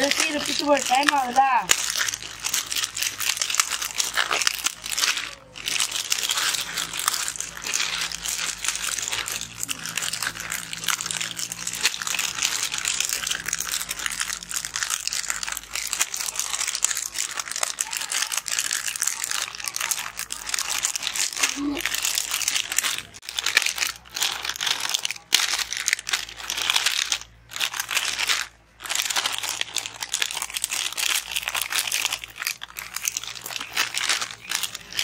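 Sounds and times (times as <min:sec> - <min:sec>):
plastic wrappers crinkling and tearing: 0:00.0 - 0:35.0.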